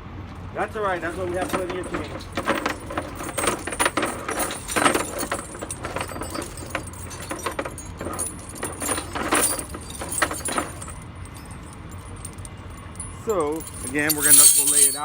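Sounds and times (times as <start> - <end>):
steel chains clinking and rattling: 0.8 - 15.0.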